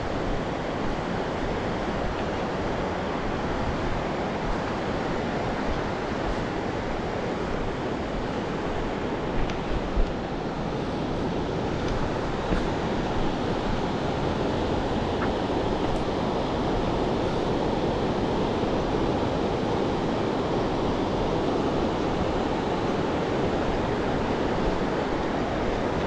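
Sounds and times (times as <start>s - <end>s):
mountain river rushing: 0.0s - 26.0s.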